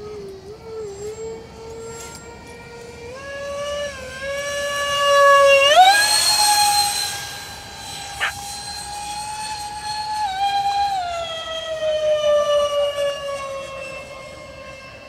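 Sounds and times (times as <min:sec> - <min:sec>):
electric ducted fans whining: 0:00.0 - 0:15.0.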